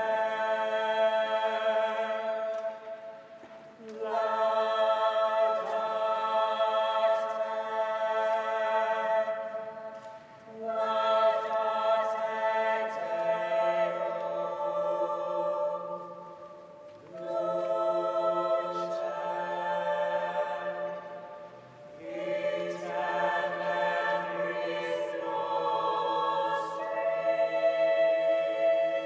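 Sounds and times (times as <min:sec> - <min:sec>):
choir singing sustained chords: 0:00.0 - 0:29.0.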